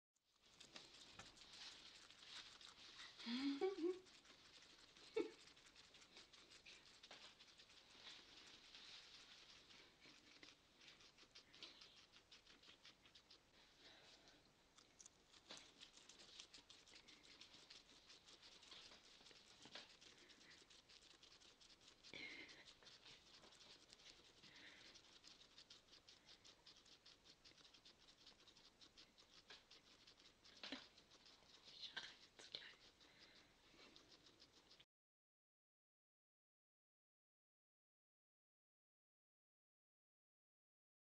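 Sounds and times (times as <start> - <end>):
guinea pigs chewing greens: 0.2 - 34.9.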